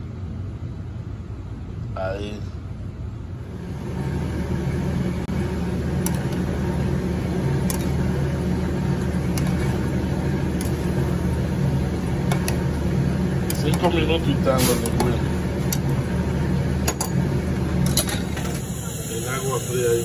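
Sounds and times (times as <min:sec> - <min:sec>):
water boiling in a saucepan: 0:03.9 - 0:20.0.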